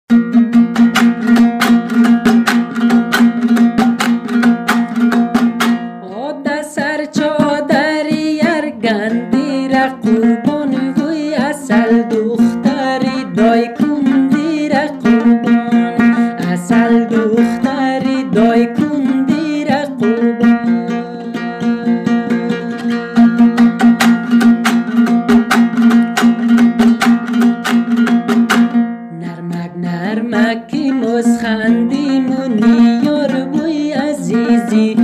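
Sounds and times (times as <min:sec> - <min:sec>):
plucked string instrument strummed: 0:00.1 - 0:35.0.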